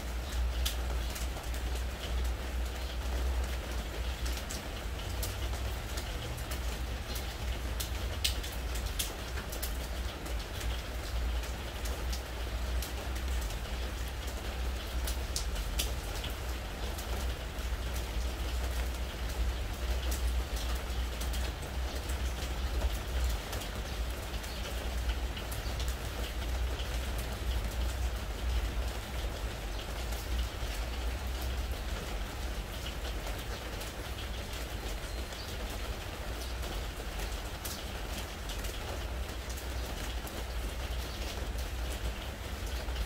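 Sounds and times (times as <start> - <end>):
rain on a wooden deck: 0.0 - 43.0.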